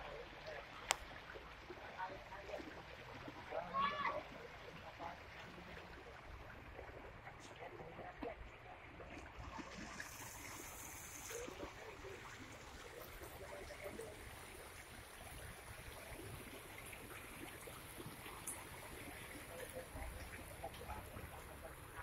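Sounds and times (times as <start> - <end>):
creek water flowing over gravel: 0.0 - 22.0.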